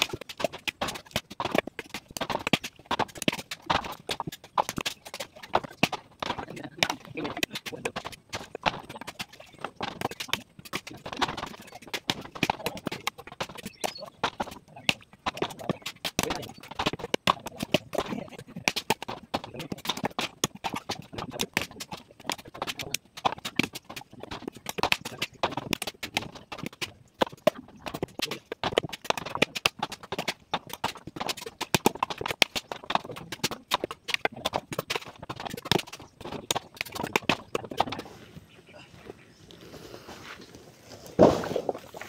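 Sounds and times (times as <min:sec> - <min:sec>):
knives chopping coconuts: 0:00.0 - 0:38.0.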